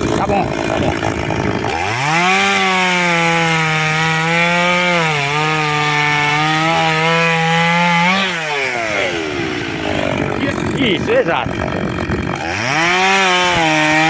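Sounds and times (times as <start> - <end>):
chainsaw cutting through log: 0.0 - 14.0.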